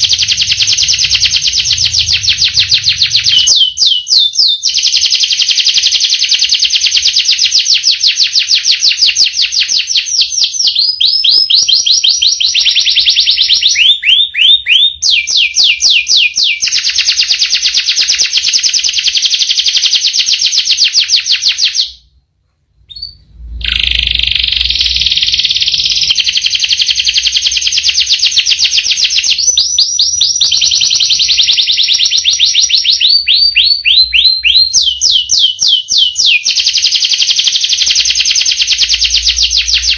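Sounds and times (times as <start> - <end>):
canary singing: 0.0 - 22.0, 22.9 - 39.9.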